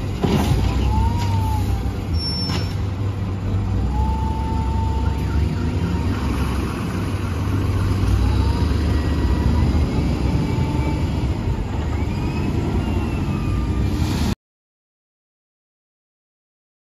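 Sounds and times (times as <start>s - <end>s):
faint whining tones: 0.0s - 14.1s
heavy machinery running: 0.0s - 14.4s.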